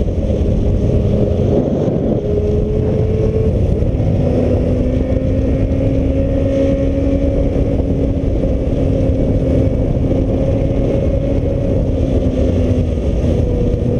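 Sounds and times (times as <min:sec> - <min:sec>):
motorcycle engine running: 0:00.0 - 0:13.9
wind buffeting microphone: 0:00.0 - 0:13.9.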